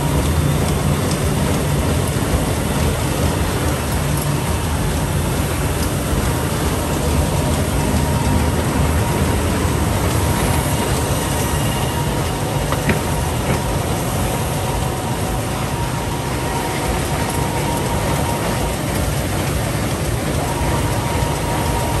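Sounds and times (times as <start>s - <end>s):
machine clattering: 0.0s - 22.0s.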